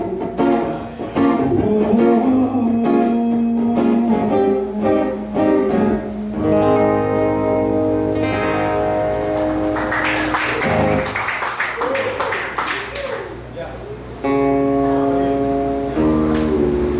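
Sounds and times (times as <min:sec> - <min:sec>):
guitar strumming chords: 0:00.0 - 0:11.1, 0:14.2 - 0:16.9.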